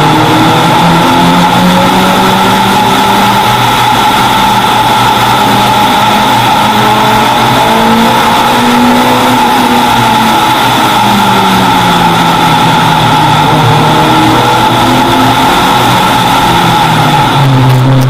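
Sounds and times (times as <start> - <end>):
race car engine revving: 0.0 - 18.0
steady rush of noise: 0.0 - 18.0.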